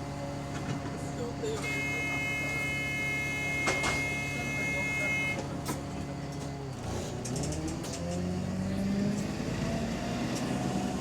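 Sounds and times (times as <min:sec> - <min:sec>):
bus engine pulling away: 0:00.0 - 0:11.0
engine whine: 0:00.0 - 0:11.0.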